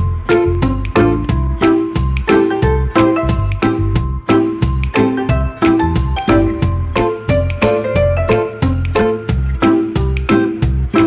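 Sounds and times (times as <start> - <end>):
background music with steady beat: 0.0 - 11.0
bass line: 0.0 - 11.0.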